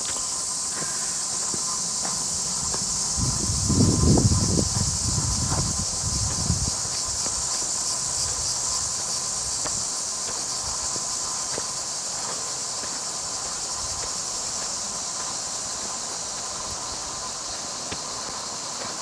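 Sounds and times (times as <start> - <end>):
cicadas buzzing: 0.0 - 19.0.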